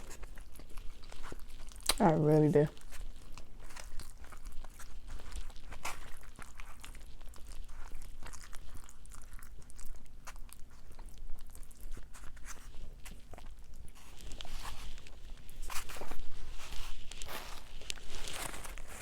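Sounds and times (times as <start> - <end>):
crunching and chewing fried chicken: 0.0 - 19.0.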